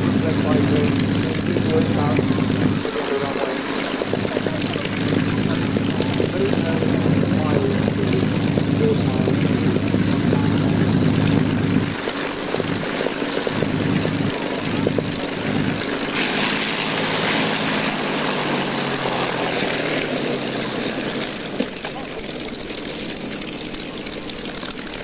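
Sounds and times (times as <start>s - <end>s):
propeller aircraft engine drone: 0.0s - 25.0s.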